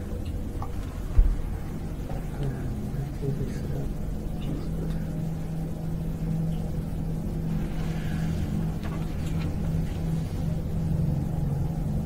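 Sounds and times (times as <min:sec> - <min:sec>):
low hum with rumble: 0:00.0 - 0:12.0.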